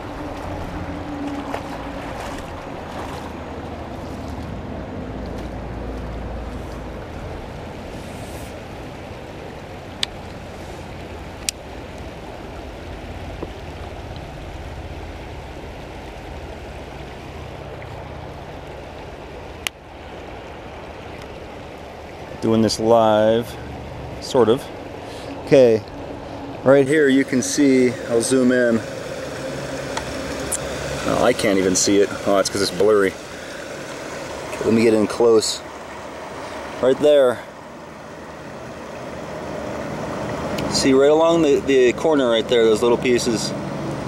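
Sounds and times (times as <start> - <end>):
creek water running over rocks: 0.0 - 44.0.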